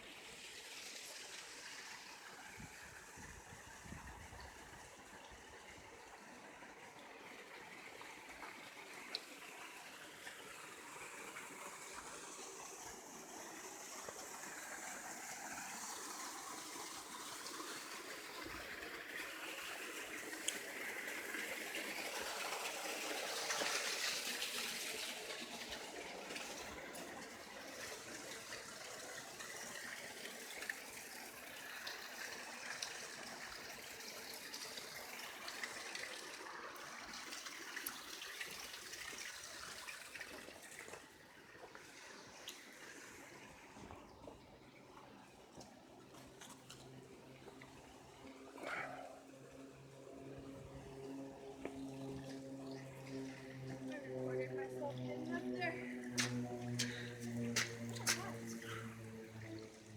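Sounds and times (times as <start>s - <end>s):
water trickling in a stream: 0.0s - 59.9s.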